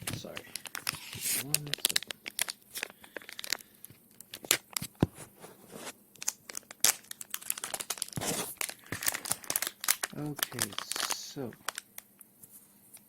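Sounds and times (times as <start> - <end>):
packaging crinkling and tearing: 0.0 - 5.0, 6.2 - 12.1.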